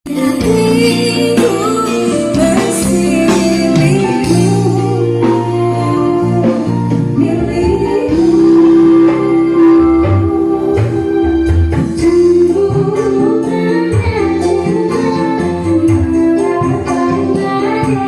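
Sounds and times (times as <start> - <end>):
song through amplifier: 0.1 - 18.0.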